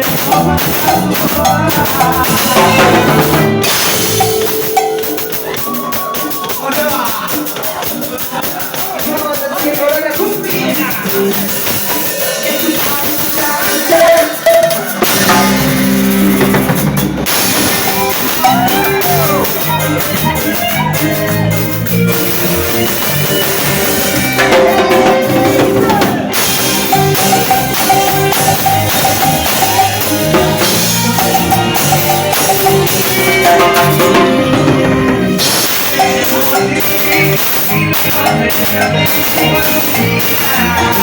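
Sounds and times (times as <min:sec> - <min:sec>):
drum kit: 0:00.0 - 0:41.0
live cumbia band playing: 0:00.0 - 0:41.0.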